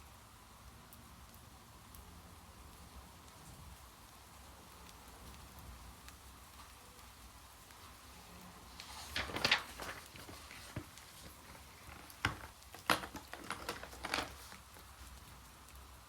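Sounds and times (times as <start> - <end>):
faint steady rain: 0.0 - 16.0.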